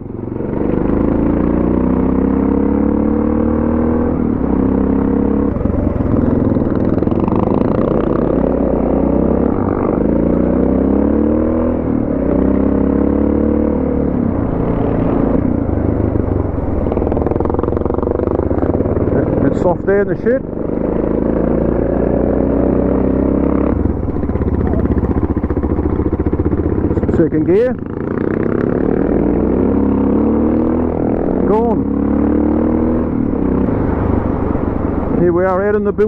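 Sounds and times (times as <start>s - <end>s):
motorcycle engine accelerating: 0.0s - 36.0s
road and wind noise: 0.0s - 36.0s.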